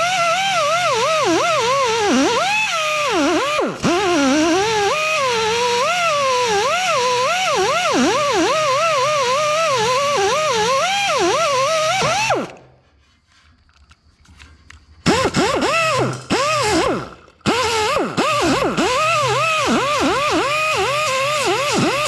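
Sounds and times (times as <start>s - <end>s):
grinder whining on metal: 0.0s - 12.7s, 15.0s - 22.0s.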